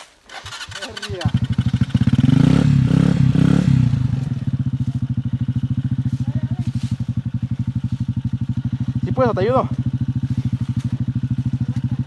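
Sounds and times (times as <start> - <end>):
motorcycle engine revving and chugging: 0.3 - 12.0.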